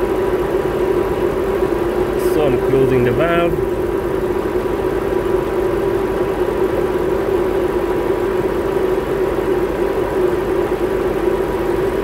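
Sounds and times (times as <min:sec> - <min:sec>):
air conditioning running: 0:00.0 - 0:12.0
car engine idling: 0:00.0 - 0:12.0.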